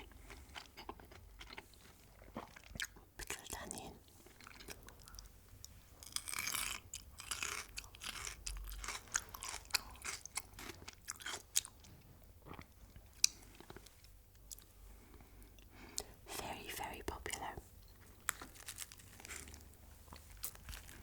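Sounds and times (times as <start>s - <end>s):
chewing crunchy food: 0.0s - 16.2s, 17.3s - 21.0s.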